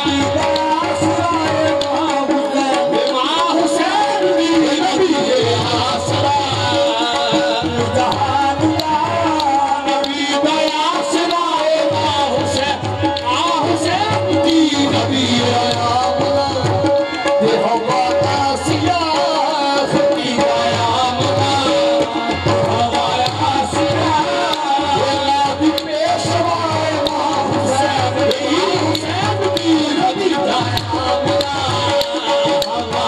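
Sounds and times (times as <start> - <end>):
hand drum beat: 0.0 - 33.0.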